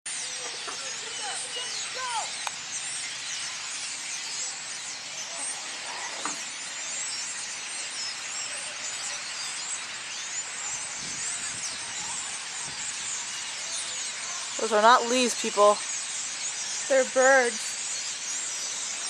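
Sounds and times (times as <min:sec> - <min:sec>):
flock of birds calling: 0:00.1 - 0:19.0.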